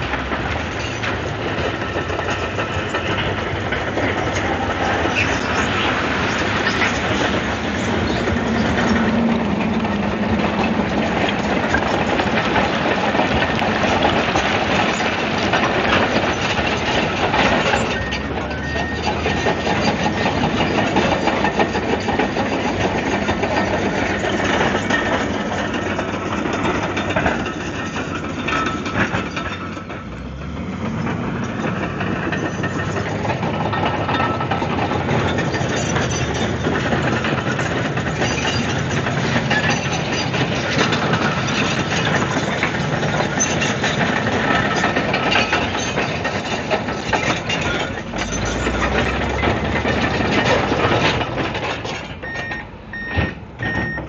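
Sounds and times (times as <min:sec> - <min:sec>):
diesel engine running under load: 0:00.0 - 0:54.0
steel tracks clanking: 0:00.0 - 0:54.0.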